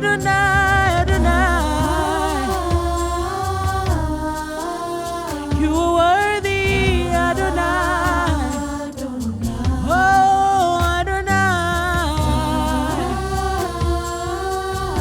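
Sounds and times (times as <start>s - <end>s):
low instrumental backing: 0.0s - 15.0s
person singing worship song: 0.0s - 15.0s.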